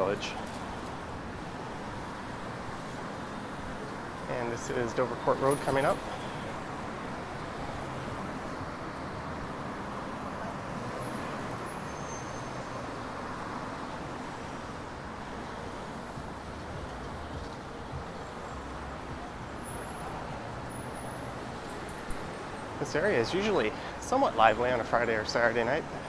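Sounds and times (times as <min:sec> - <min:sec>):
vehicles passing on busy road: 0:00.0 - 0:26.0.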